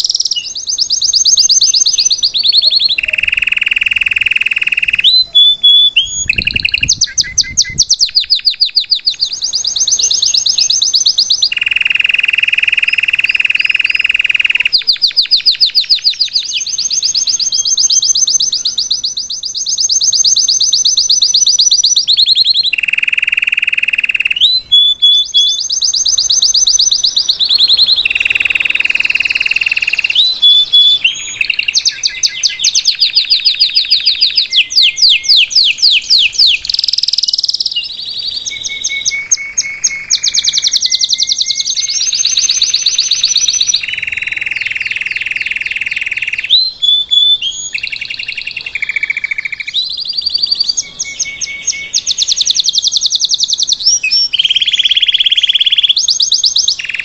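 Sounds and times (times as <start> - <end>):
canary singing trills and whistles: 0.0 - 57.0.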